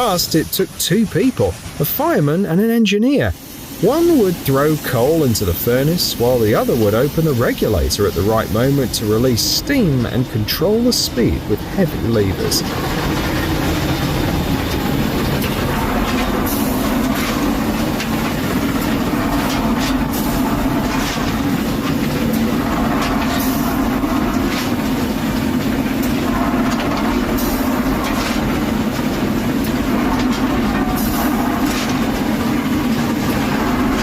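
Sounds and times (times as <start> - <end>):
train rumbling on track: 0.0 - 34.0.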